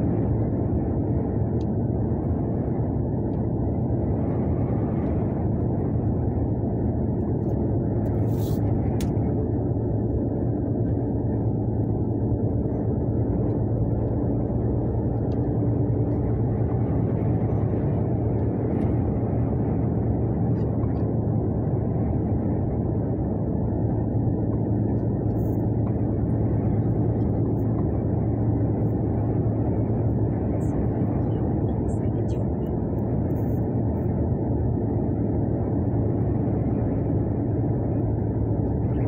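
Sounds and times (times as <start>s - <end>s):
road and tyre noise: 0.0s - 39.0s
vehicle engine hum: 0.0s - 39.0s.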